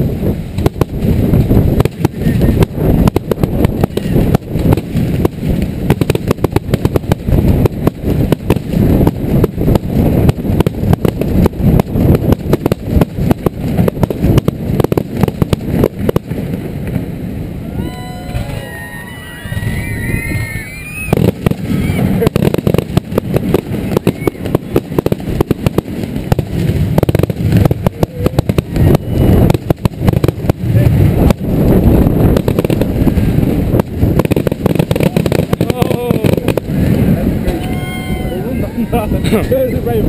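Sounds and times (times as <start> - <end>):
firework bangs and crackles: 0.0 - 40.0
low rumble: 0.0 - 40.0
whistling fireworks: 0.0 - 40.0.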